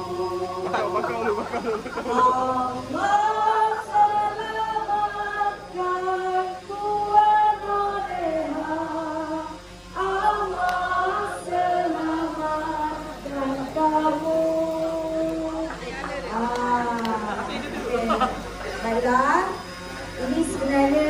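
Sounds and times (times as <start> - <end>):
group singing slow song: 0.0 - 21.0.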